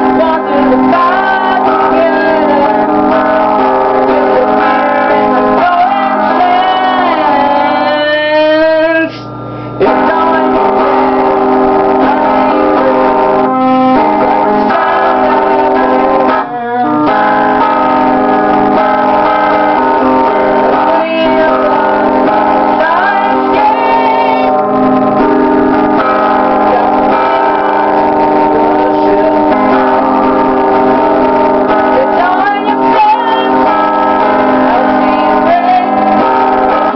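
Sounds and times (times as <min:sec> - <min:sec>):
sustained keyboard chords: 0:00.0 - 0:36.9.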